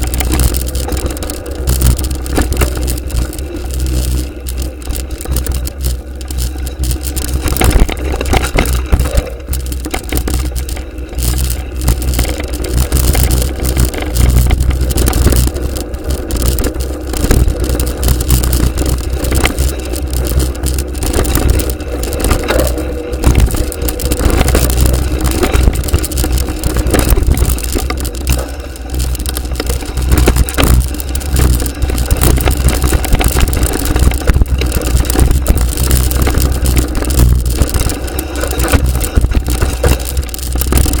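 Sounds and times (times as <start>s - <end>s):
bike knocks and rattles: 0.0s - 41.0s
bike tyres crunching over dirt: 0.0s - 41.0s
wind rumble on microphone: 0.0s - 41.0s.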